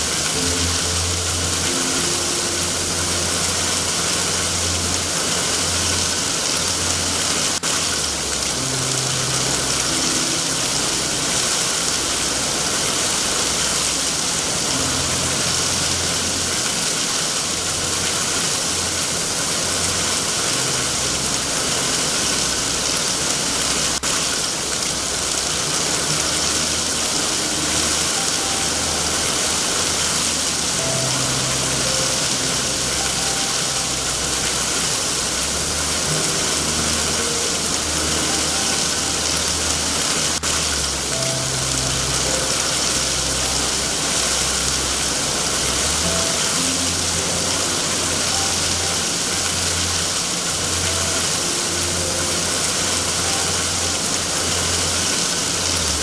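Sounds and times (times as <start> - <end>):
heavy rain hiss: 0.0 - 56.0
low uneven rumble: 0.0 - 56.0.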